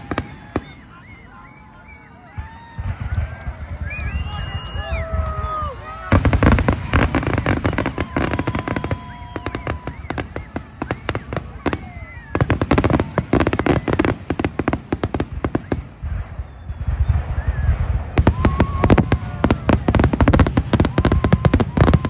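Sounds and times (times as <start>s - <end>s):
fireworks cracking and banging: 0.0s - 22.0s.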